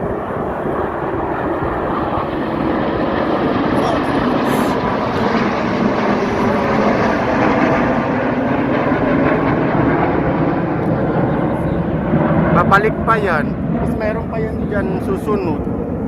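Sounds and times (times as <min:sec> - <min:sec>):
aircraft flying past: 0:00.0 - 0:16.0.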